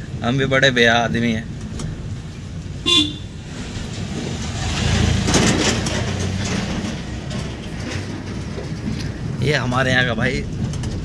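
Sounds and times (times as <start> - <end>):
car engine: 0.0 - 11.0
road noise on rough lane: 0.0 - 11.0.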